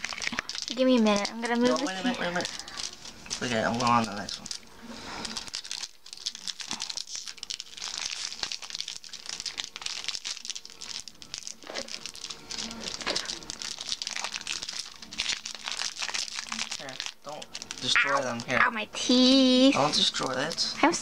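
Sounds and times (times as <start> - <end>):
foil wrapper crinkling: 0.0 - 18.6, 19.2 - 21.0.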